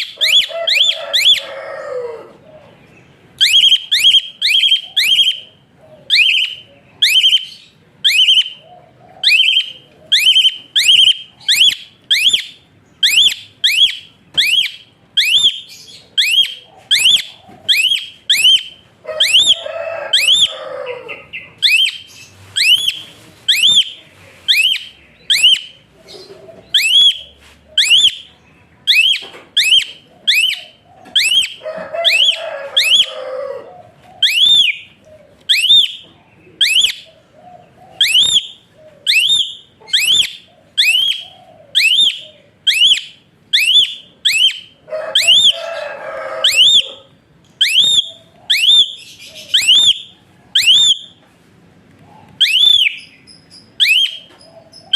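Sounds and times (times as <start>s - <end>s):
starling whistling: 0.0s - 1.7s, 3.4s - 28.3s, 28.9s - 33.5s, 34.1s - 34.9s, 35.5s - 36.0s, 36.6s - 37.2s, 37.8s - 51.2s, 52.4s - 54.9s
starling harsh chatter: 0.0s - 54.9s.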